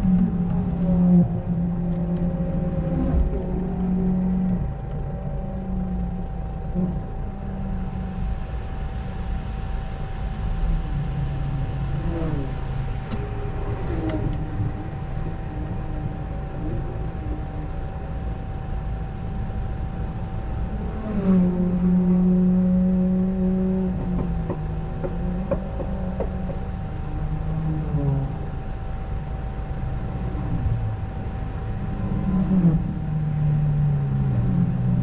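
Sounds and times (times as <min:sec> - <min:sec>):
constant thin tone: 0:00.0 - 0:35.0.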